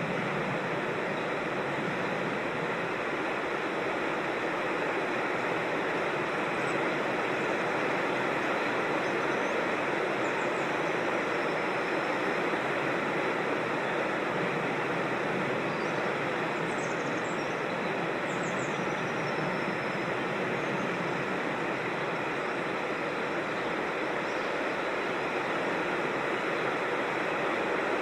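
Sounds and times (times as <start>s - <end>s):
flowing creek water: 0.0s - 28.0s.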